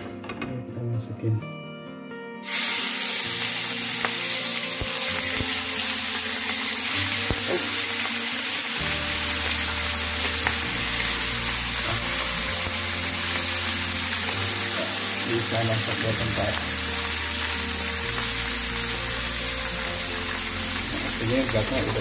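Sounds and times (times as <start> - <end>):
meat sizzling in oil: 2.4 - 22.0.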